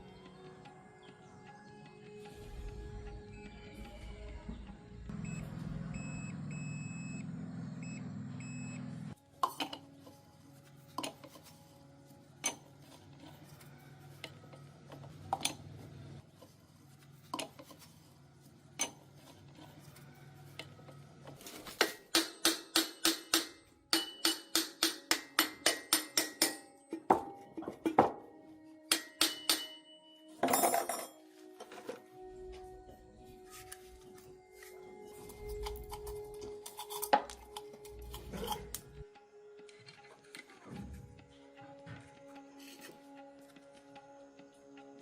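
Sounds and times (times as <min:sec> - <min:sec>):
faint music: 0:00.0 - 0:45.0.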